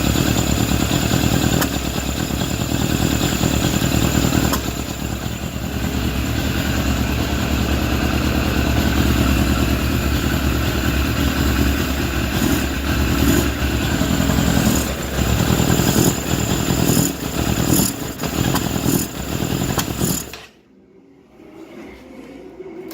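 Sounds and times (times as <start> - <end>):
motorcycle engine running: 0.0 - 20.3.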